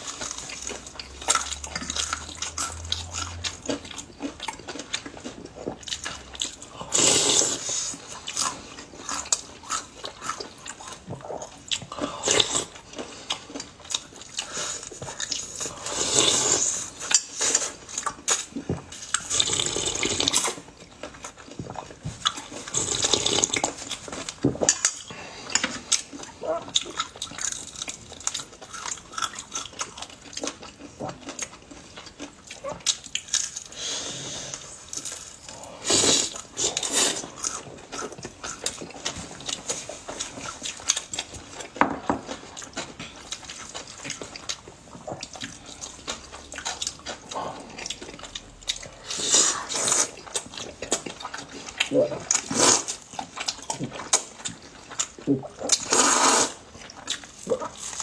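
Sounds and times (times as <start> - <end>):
chewing and lip smacks: 0.0 - 15.9, 16.5 - 33.8, 34.5 - 58.0
slurping soup and noodles: 0.0 - 26.4, 33.7 - 41.3, 45.1 - 58.0.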